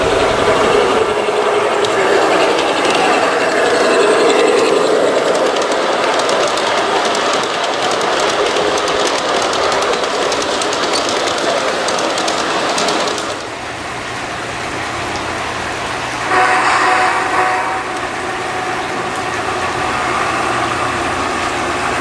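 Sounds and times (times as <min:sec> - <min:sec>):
model train wheels rumbling and clicking: 0:00.0 - 0:22.0.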